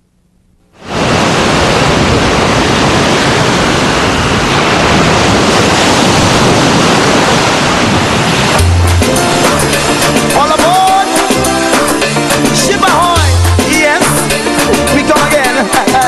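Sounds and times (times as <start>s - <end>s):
surf washing onto beach: 0.8s - 16.0s.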